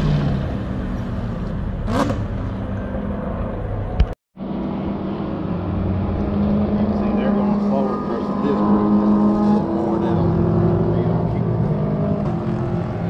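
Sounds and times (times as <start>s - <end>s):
distant race car engines droning: 0.0s - 13.0s.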